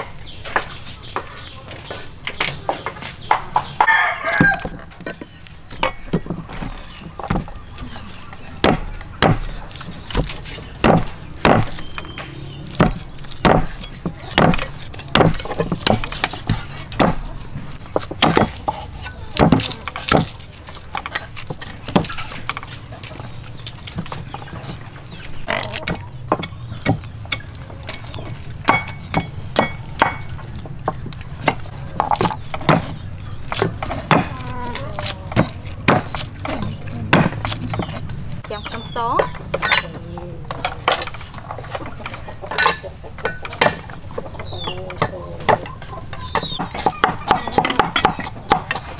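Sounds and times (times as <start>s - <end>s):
knife chopping on wooden board: 5.7s - 39.8s, 40.5s - 48.9s.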